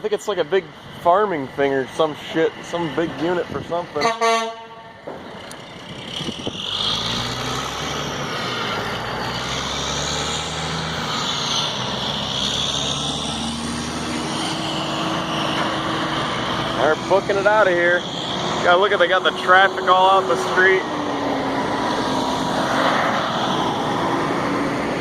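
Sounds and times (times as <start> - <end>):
diesel truck engines droning: 0.0 - 25.0.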